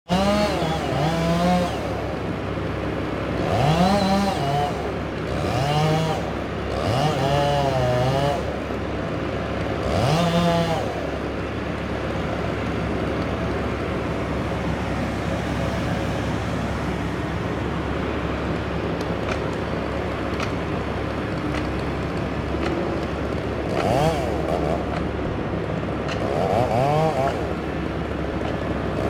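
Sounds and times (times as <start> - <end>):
chainsaw engine idling: 0.1 - 29.0.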